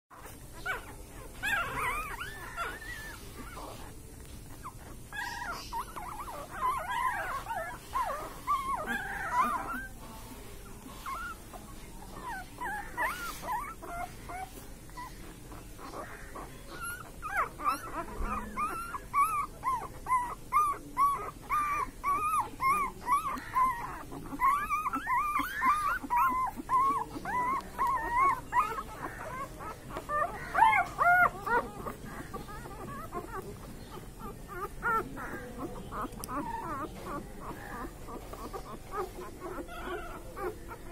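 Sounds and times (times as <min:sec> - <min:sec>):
puppies whimpering and squeaking: 0:00.1 - 0:40.9.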